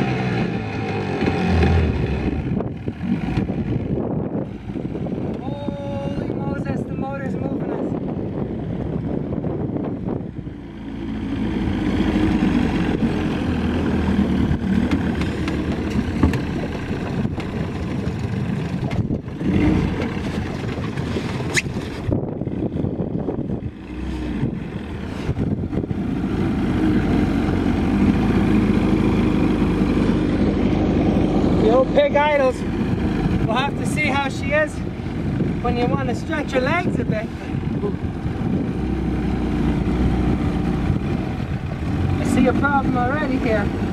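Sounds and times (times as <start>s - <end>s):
outboard motor idling: 0.0s - 43.9s.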